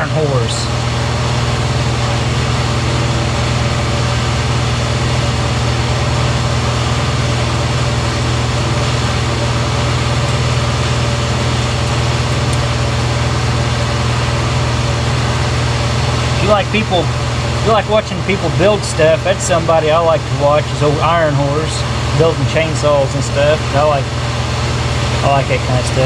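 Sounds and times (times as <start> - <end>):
air compressor humming: 0.0 - 26.0.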